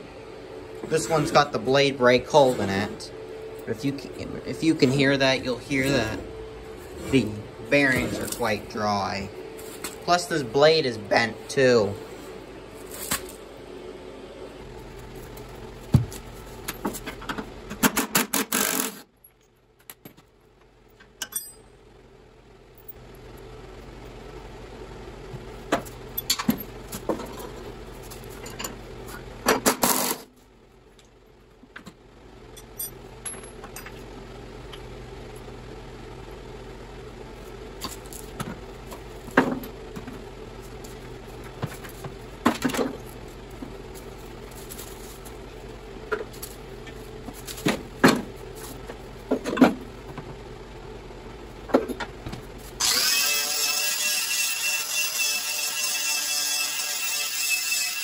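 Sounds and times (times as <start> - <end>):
steady low hum: 0.0 - 53.7.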